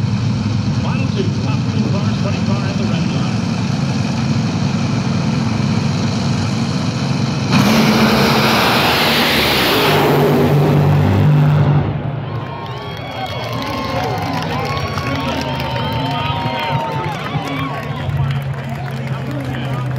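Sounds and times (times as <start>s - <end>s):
dragster engines roaring: 0.0s - 19.9s.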